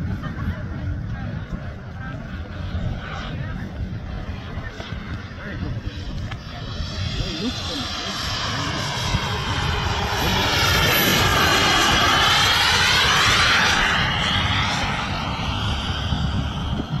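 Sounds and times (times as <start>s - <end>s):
model jet engine rushing past: 0.0s - 17.0s.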